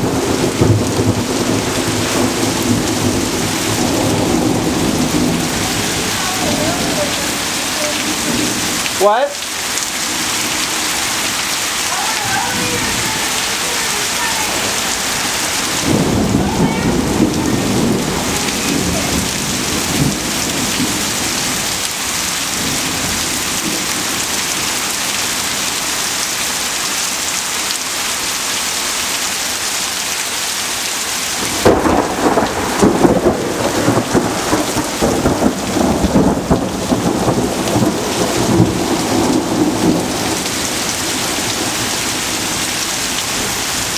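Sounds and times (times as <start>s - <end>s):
thunder rumbling: 0.0s - 25.5s, 31.4s - 43.6s
heavy rain pouring: 0.0s - 43.9s.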